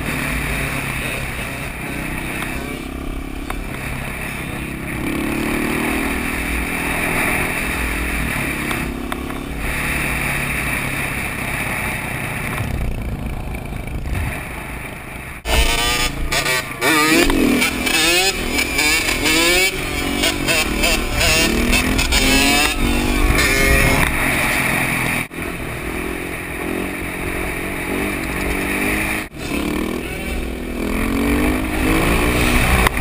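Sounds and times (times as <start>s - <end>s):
engine revving up and down: 0.0s - 14.7s, 15.4s - 25.3s, 26.0s - 33.0s
dirt bike engines running: 0.0s - 33.0s.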